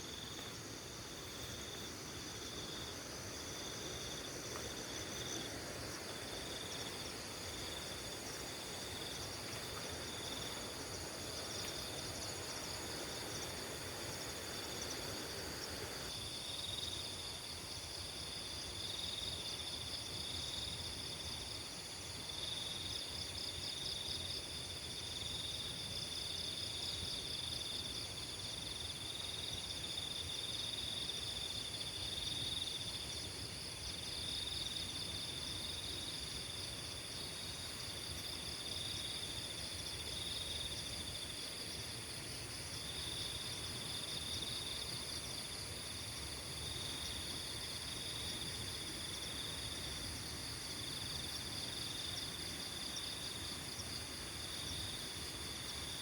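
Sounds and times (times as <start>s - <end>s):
repeated insect chirp: 0.0s - 56.0s
steady high insect buzz: 0.0s - 56.0s.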